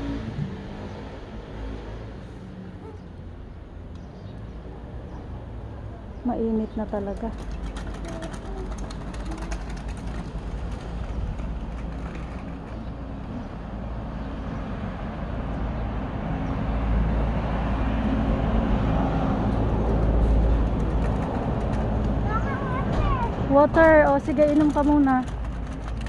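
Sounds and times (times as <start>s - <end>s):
road traffic rumble: 0.0s - 26.0s
vehicle passing: 4.5s - 26.0s.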